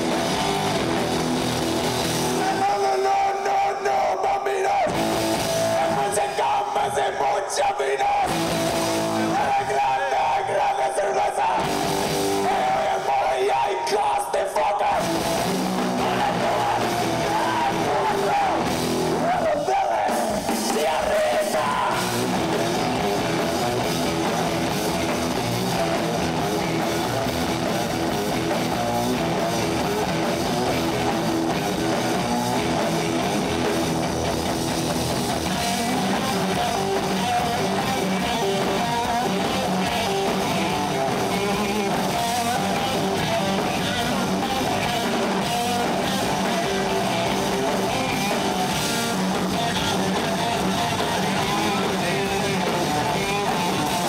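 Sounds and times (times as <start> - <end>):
drum kit: 0.0 - 3.2, 4.9 - 6.3, 8.2 - 9.8, 11.6 - 13.0, 14.9 - 54.0
electric guitar: 0.0 - 54.0.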